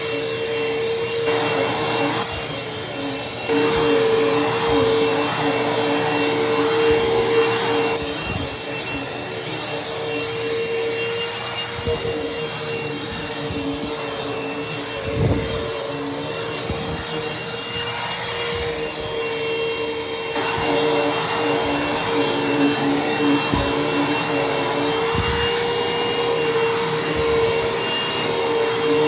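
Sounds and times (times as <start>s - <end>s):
hand vacuum motor whine: 0.0s - 29.0s.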